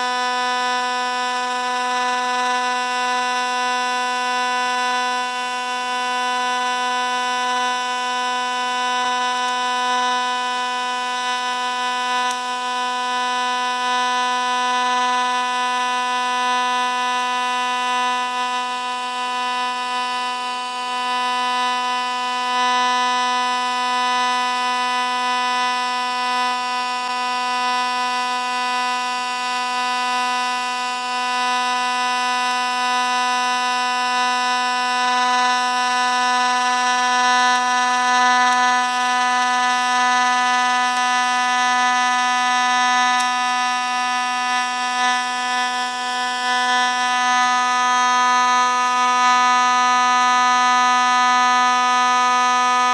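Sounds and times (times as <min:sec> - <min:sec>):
welding arc buzzing: 0:00.0 - 0:52.9.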